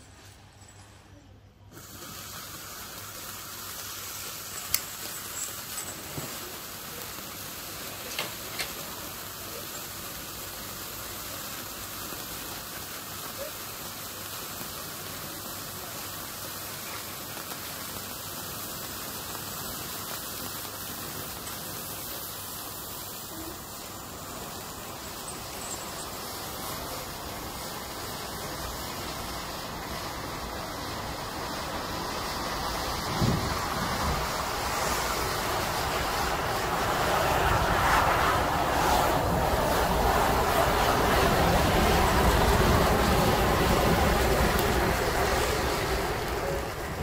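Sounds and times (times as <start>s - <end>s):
sparkler crackles: 0.0s - 47.0s
sparkler fizzing: 0.0s - 47.0s.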